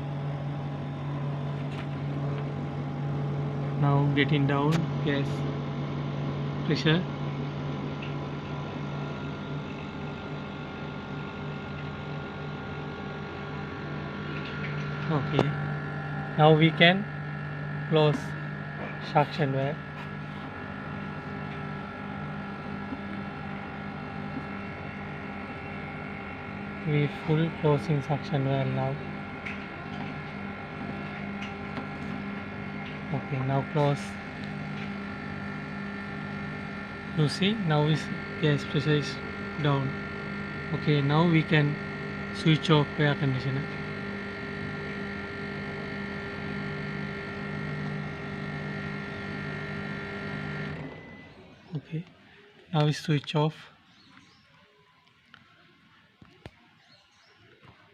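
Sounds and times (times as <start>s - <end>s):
air conditioner unit humming: 0.0s - 57.9s.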